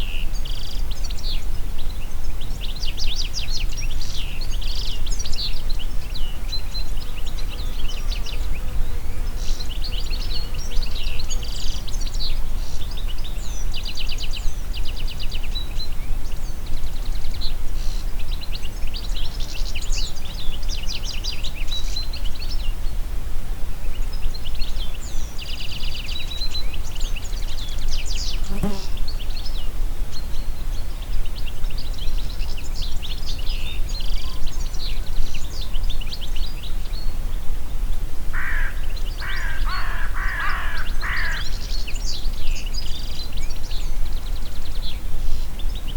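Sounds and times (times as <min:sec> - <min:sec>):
low rumble of wind: 0:00.0 - 0:45.9
songbirds singing: 0:00.0 - 0:45.9.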